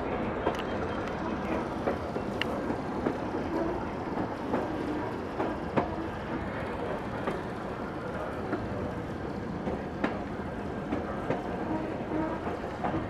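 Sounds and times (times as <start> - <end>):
streetcar rumbling on track: 0.0 - 13.0.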